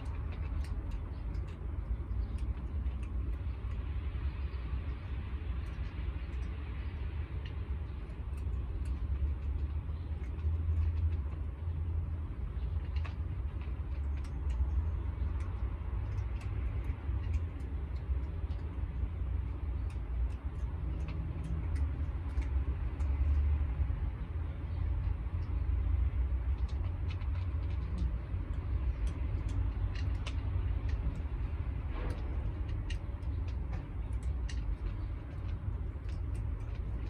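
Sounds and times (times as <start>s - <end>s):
distant street traffic rumble: 0.0s - 37.0s.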